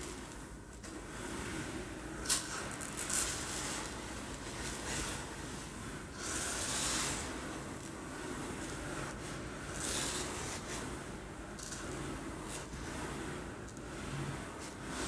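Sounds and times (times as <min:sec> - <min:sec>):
rice swishing in a container: 0:01.1 - 0:15.0.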